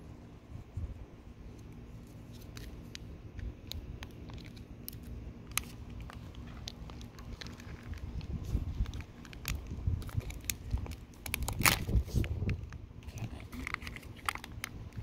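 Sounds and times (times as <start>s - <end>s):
small clicks and crackles: 1.6s - 15.0s.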